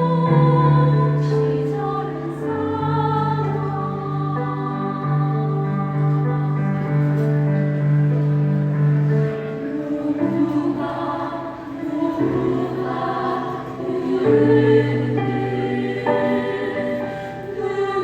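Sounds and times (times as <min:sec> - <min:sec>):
choir singing sustained chords: 0:00.0 - 0:07.3, 0:09.6 - 0:18.0.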